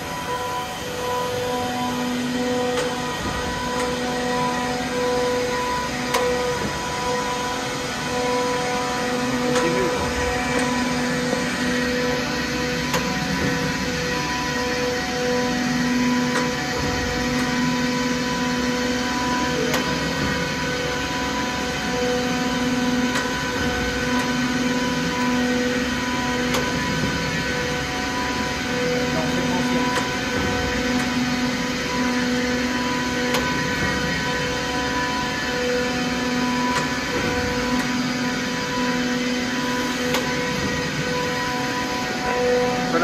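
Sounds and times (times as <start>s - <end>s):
surface grinder humming: 0.0s - 43.0s.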